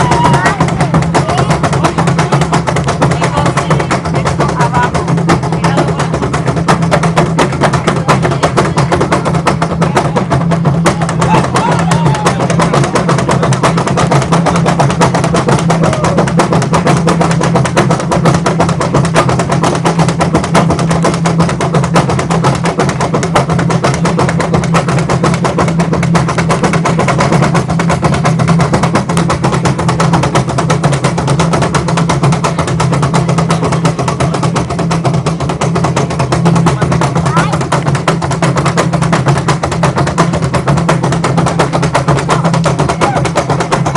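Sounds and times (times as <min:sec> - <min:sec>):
hand drums played fast: 0:00.0 - 0:43.9.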